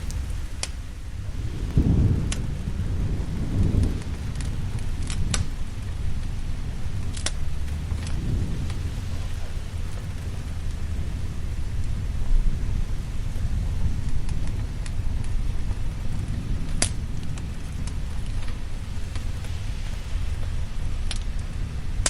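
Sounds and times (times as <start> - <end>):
low rolling thunder: 0.0 - 22.0
steady rain: 0.0 - 22.0
wood fire crackling pops: 0.0 - 22.0.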